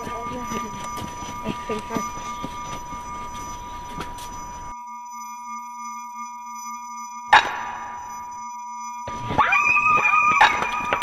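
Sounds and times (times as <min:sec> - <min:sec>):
steady electronic tones: 0:00.0 - 0:11.0.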